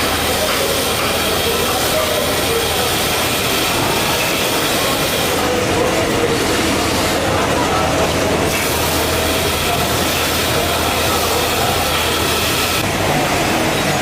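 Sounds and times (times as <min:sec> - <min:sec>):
loud machinery noise: 0:00.0 - 0:14.0.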